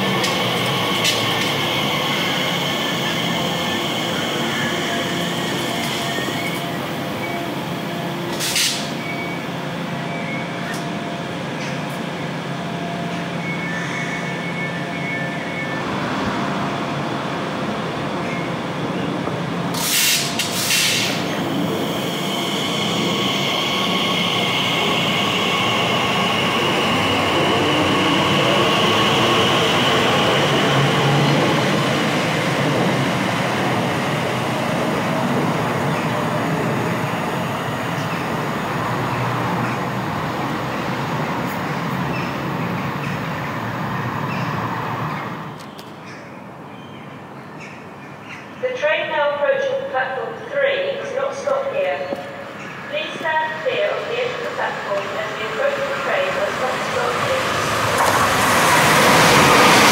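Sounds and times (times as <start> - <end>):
train wheels rumbling: 0.0 - 14.3, 15.9 - 45.9, 52.2 - 59.9
electric train whine: 0.0 - 46.0, 50.4 - 59.9.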